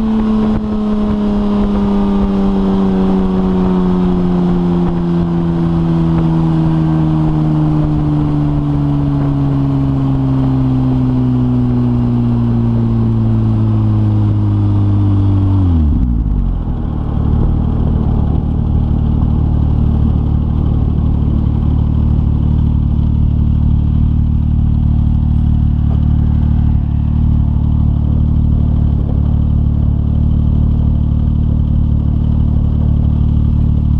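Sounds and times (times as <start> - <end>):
car engine revving down to idle: 0.0 - 33.9.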